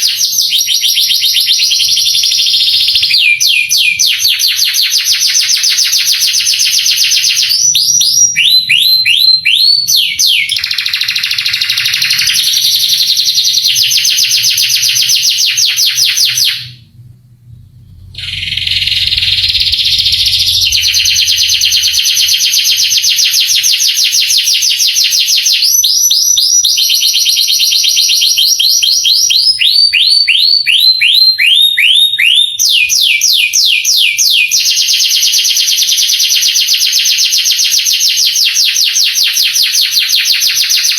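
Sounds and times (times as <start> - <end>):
canary singing trills and whistles: 0.0 - 16.8, 18.2 - 40.9.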